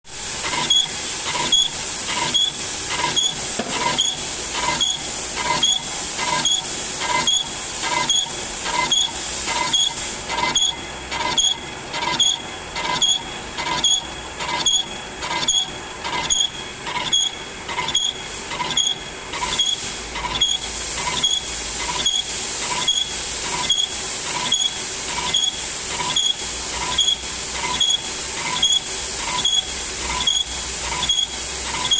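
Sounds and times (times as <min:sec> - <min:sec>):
lathe turning: 0:00.2 - 0:31.9.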